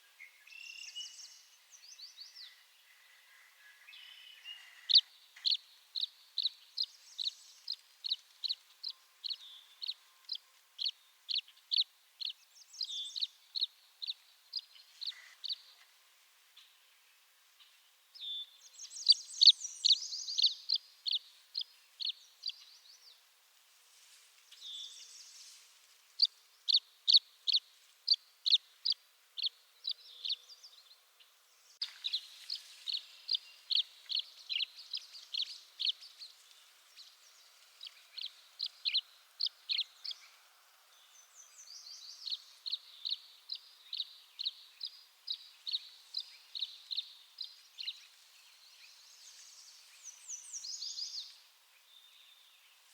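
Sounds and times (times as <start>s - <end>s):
bird chirping: 0.0s - 15.9s, 16.6s - 23.3s, 24.5s - 52.9s.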